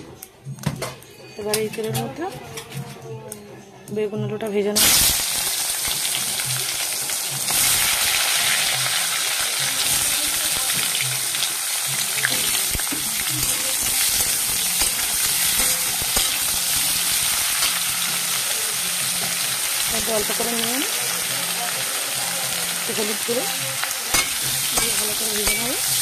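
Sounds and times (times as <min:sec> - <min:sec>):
vegetables sizzling in hot oil: 0:04.8 - 0:26.0.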